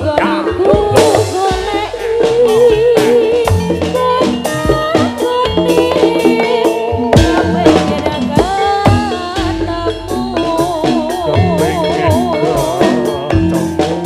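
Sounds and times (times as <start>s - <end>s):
sharp drum strokes: 0.0s - 14.0s
traditional music over sound system: 0.0s - 14.0s
wavering melody line: 0.0s - 14.0s.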